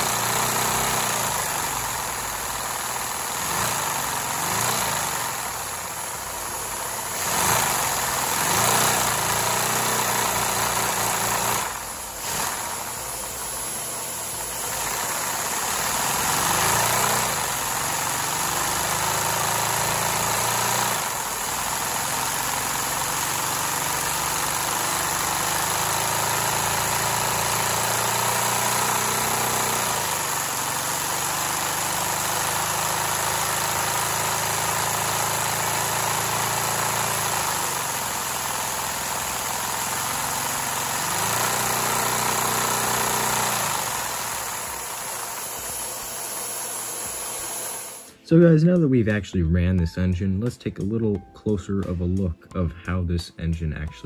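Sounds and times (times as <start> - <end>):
toy vacuum engine running: 0.0 - 48.2.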